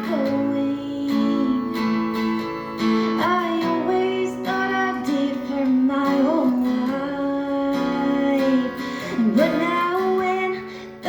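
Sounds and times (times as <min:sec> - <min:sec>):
person singing: 0:00.0 - 0:11.0
strummed acoustic guitar: 0:00.0 - 0:11.0.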